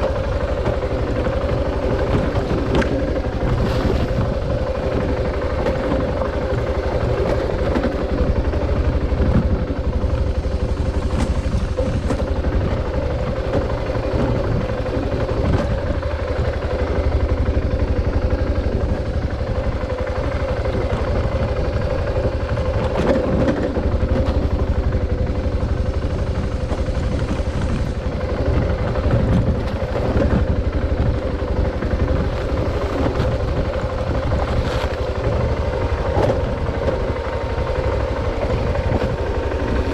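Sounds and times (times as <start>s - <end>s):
motorcycle engine running: 0.0s - 39.9s
road and wind rumble: 0.0s - 39.9s.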